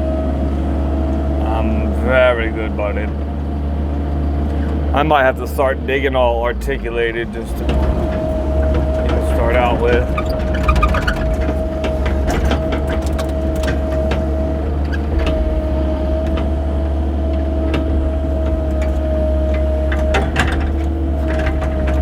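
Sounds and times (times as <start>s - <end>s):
excavator engine running: 0.0s - 22.0s
hydraulic whine: 0.0s - 22.0s.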